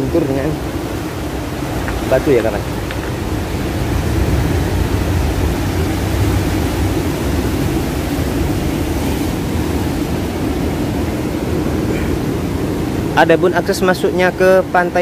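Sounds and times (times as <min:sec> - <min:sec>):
surf breaking against rocks: 0:00.0 - 0:14.4
strong wind: 0:00.0 - 0:15.0.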